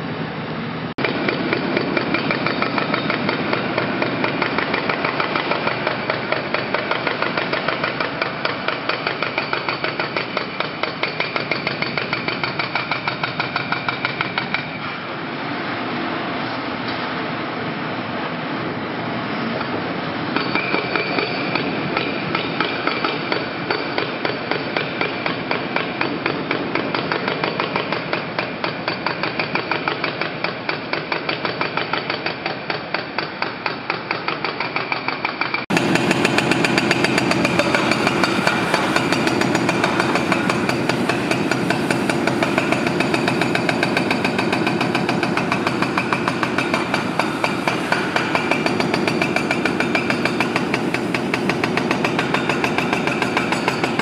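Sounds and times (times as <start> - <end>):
hydraulic breaker hammering concrete: 1.0 - 15.0, 20.4 - 54.0.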